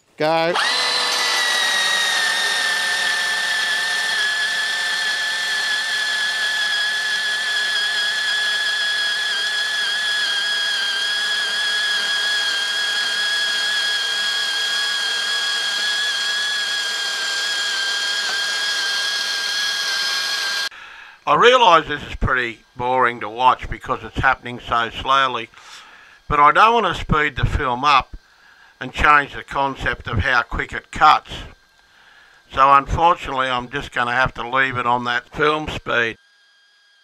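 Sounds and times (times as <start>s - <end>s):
bandsaw whine cutting metal: 0.0s - 37.0s.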